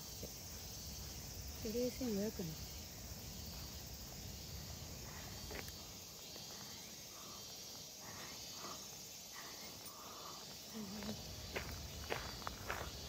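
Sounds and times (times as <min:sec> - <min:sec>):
high insect hum: 0:00.0 - 0:13.0.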